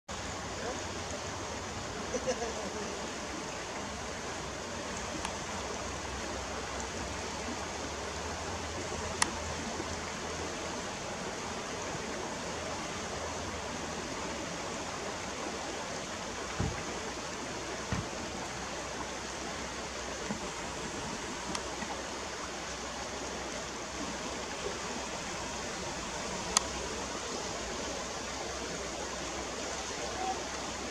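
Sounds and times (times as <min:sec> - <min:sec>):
river running over stones: 0:00.1 - 0:30.9.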